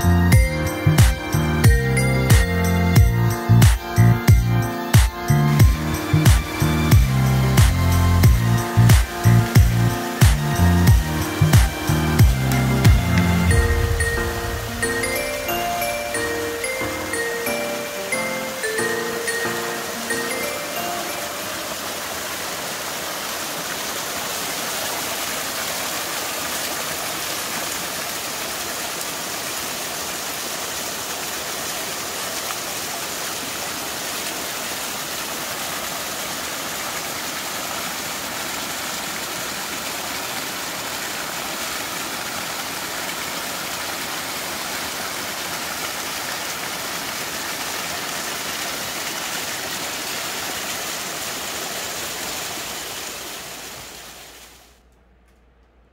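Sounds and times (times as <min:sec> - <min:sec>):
stream running over rocks: 0:00.0 - 0:54.8.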